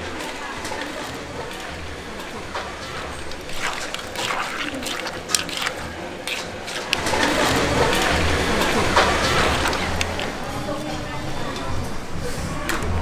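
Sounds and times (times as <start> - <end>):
liquid splashing: 0.0 - 11.6
utensils and containers clinking: 0.0 - 12.9.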